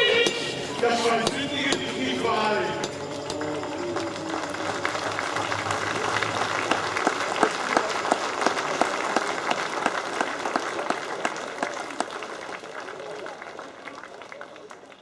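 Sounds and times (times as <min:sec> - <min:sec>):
crowd applauding: 0:01.3 - 0:15.0.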